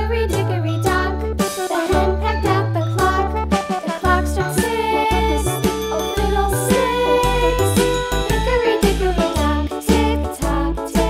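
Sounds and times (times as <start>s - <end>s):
children's music: 0.0s - 11.0s.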